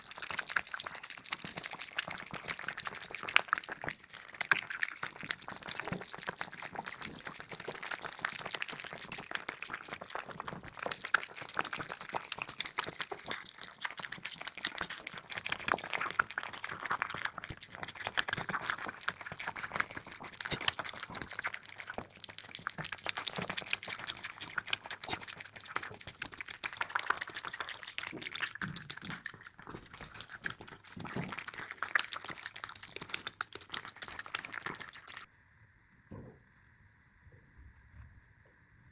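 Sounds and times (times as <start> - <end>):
cats chewing wet food: 0.0 - 35.3.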